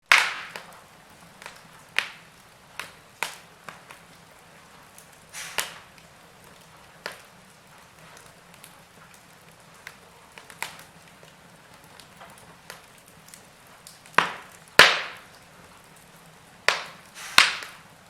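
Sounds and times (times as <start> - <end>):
low steady hiss: 0.0 - 18.0
wood fire crackling and popping: 0.0 - 18.0.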